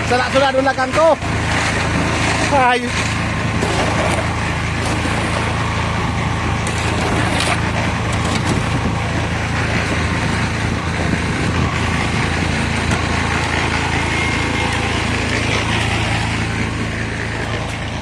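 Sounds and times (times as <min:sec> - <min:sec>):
cement mixer engine hum: 0:00.0 - 0:18.0.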